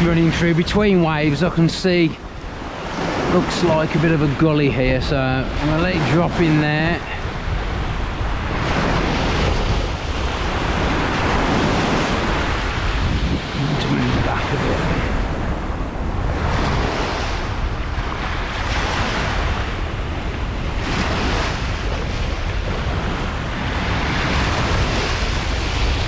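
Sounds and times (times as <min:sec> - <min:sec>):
sea waves breaking: 0:00.0 - 0:26.0
wind rumbling on microphone: 0:00.0 - 0:26.0.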